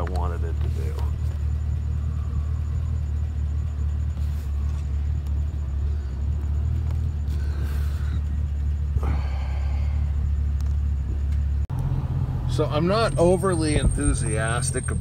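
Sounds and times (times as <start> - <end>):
low rumble: 0.2 - 15.0.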